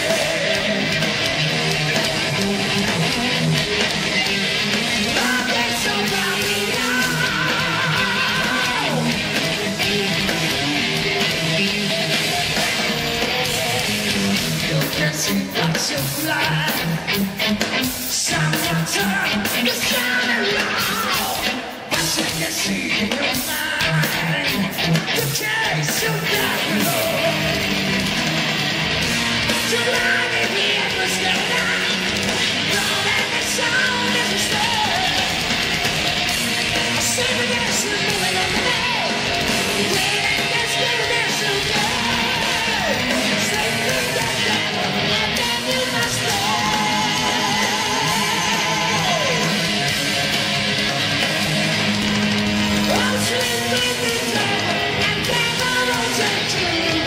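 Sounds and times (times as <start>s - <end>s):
electric guitar lead: 0.0s - 57.0s
live heavy metal band: 0.0s - 57.0s.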